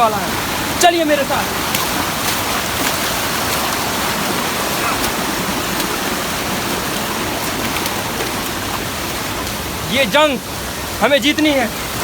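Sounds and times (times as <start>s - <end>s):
flowing stream water: 0.0s - 12.0s.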